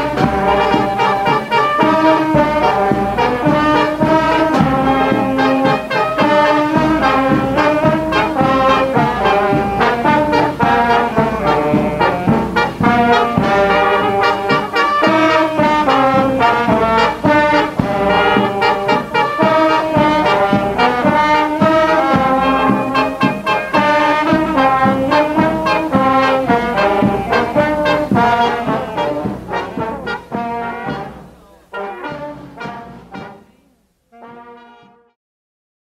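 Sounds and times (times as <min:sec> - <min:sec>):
brass band music: 0:00.0 - 0:35.2.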